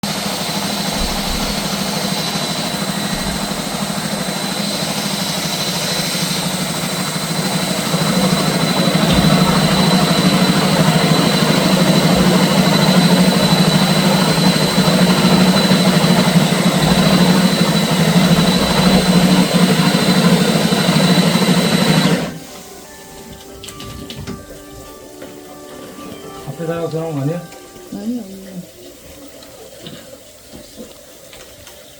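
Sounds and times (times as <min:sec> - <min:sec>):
drain cleaning machine running: 0:00.0 - 0:31.9.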